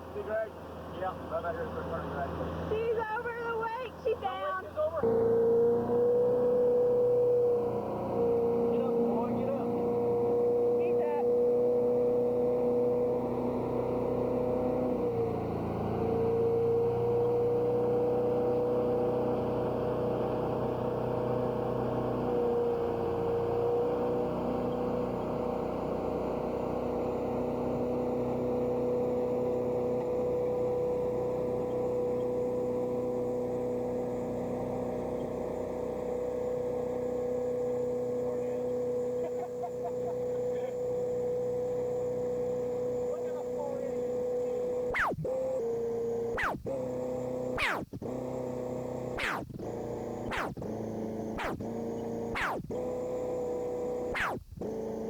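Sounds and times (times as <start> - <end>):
motorboat engine running: 0.0 - 55.0.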